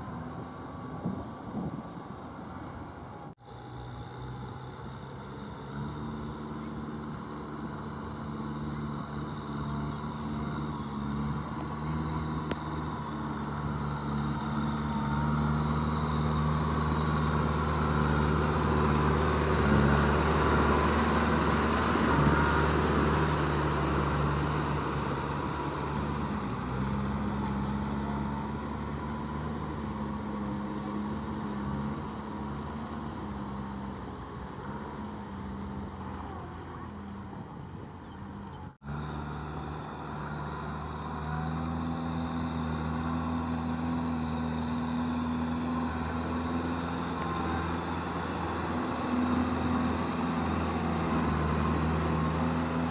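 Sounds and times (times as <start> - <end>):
tractor diesel engine: 0.0 - 52.9
rotary tiller churning mud: 3.4 - 37.0, 38.8 - 52.9.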